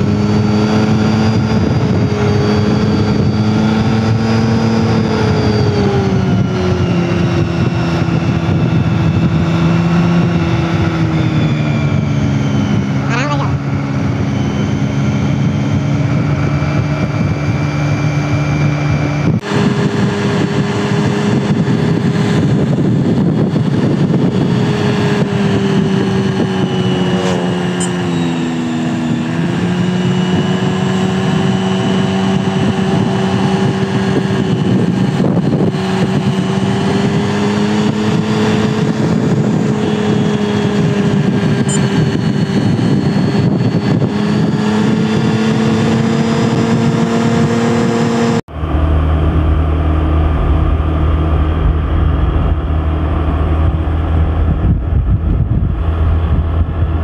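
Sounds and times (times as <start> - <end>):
vehicle engine running: 0.0 - 57.0
wind and road noise: 0.0 - 57.0.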